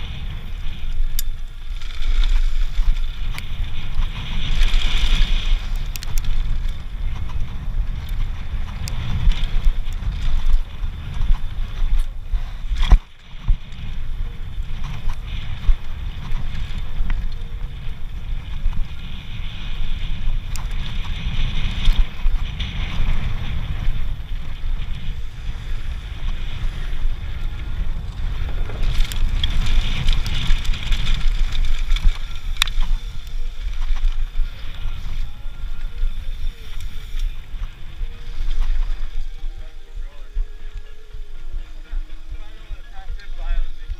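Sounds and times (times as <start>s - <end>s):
tyres on loose dirt: 0.0s - 43.9s
wind buffeting microphone: 0.0s - 43.9s.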